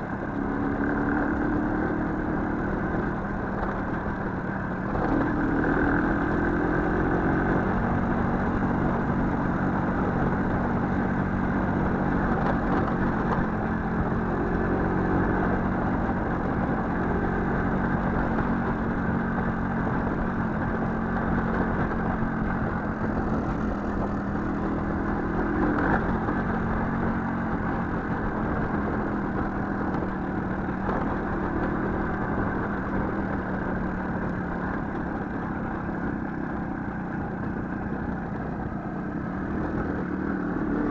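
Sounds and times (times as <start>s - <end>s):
small motorcycle engine running: 0.0s - 40.9s.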